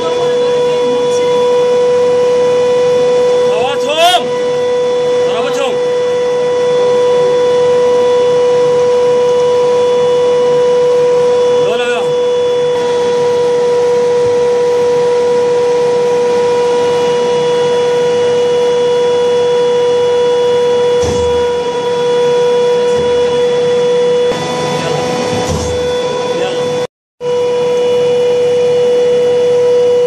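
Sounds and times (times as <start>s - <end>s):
tank machine whine: 0.0s - 30.0s.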